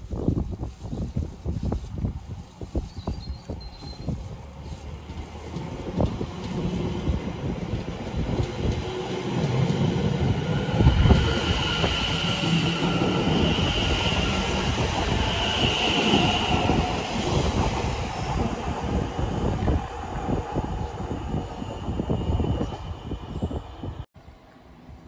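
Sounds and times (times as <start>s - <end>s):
train wheels rumbling on rails: 0.0s - 24.1s.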